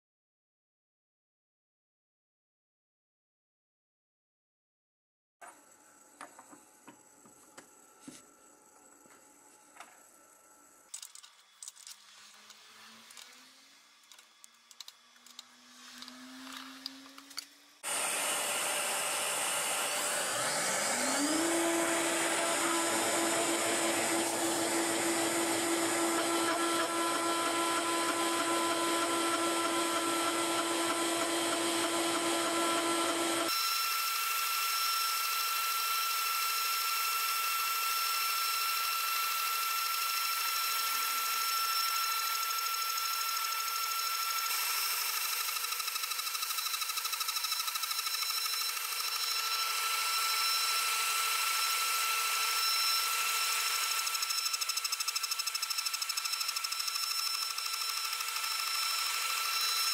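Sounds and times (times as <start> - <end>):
milling spindle whine: 5.4 - 59.9.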